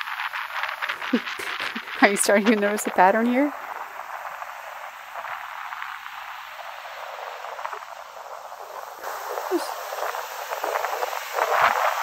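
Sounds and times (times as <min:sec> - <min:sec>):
foam bubbles fizzing: 0:00.0 - 0:12.0
surf washing over sand: 0:00.0 - 0:12.0.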